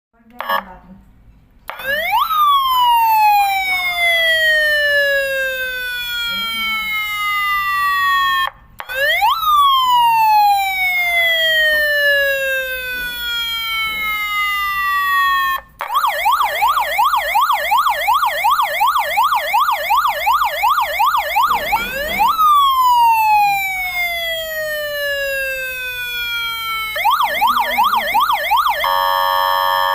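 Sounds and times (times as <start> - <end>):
police car siren: 1.7 - 29.9.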